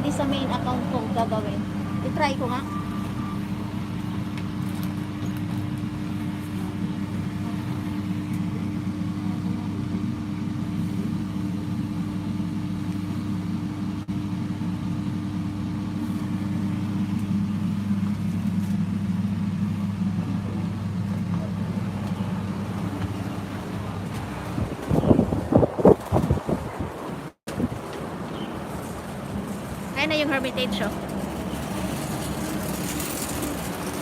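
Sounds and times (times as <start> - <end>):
road noise: 0.0 - 14.8, 15.6 - 34.0
low engine drone: 0.0 - 34.0.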